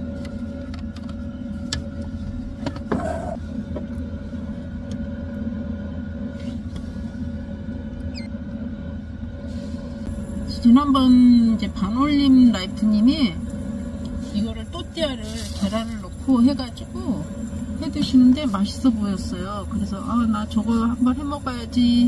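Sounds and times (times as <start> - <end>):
diesel heater rumble and hum: 0.0 - 22.0.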